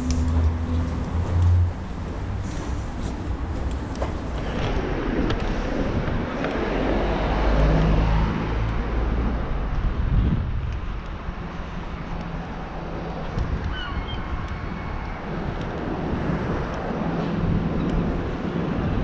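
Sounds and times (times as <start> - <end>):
road traffic passing: 0.0 - 19.0
wind buffeting microphone: 0.0 - 19.0.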